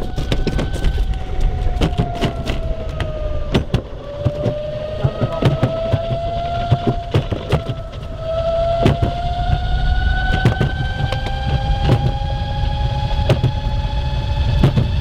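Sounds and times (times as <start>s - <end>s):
wheels clicking on track: 0.0s - 13.9s
electric motor whining: 0.0s - 15.0s
low rumble: 0.0s - 15.0s.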